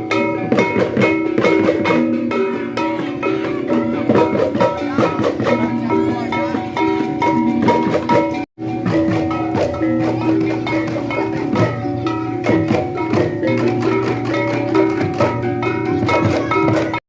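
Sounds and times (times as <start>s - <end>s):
bamboo slit drums interlocking rhythm: 0.0s - 17.0s.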